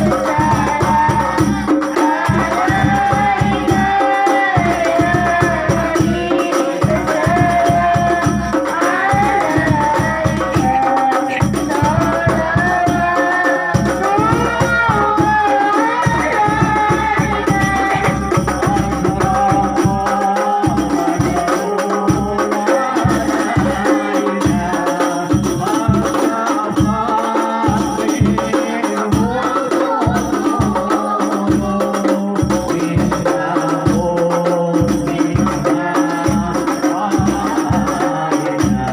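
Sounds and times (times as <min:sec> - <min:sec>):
devotional singing: 0:00.0 - 0:38.9
frame drums and jingles: 0:00.0 - 0:38.9.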